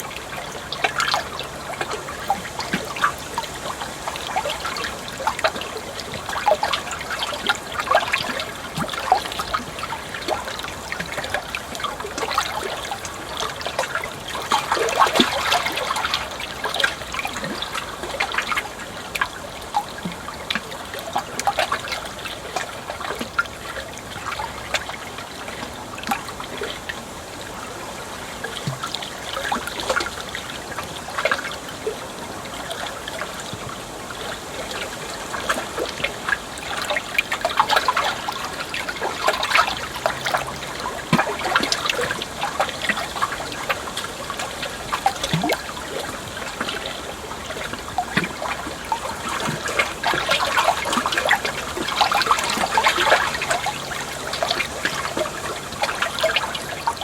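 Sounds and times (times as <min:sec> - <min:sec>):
small water splashes: 0:00.0 - 0:57.0
water trickling and burbling: 0:00.0 - 0:57.0.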